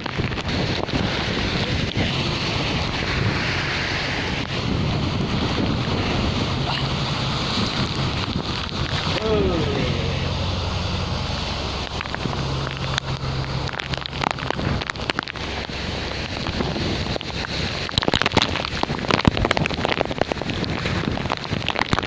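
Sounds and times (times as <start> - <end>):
low steady hum: 0.0 - 20.6
heavy rain: 0.0 - 22.0
raindrops pattering on microphone: 0.0 - 22.0
wind buffeting microphone: 0.0 - 22.0.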